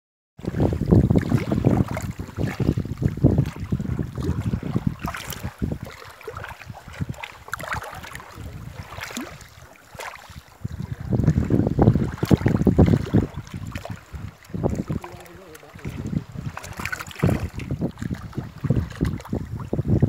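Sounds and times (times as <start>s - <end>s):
fish thrashing in shallow water: 0.4s - 19.6s.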